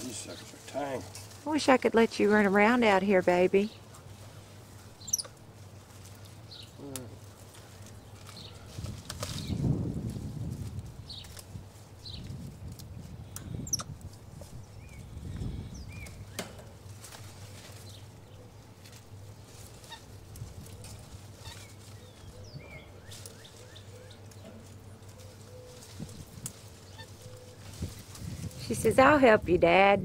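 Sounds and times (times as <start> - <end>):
birds chirping: 0.0 - 9.7, 11.0 - 11.4, 12.0 - 12.4, 13.4 - 29.4.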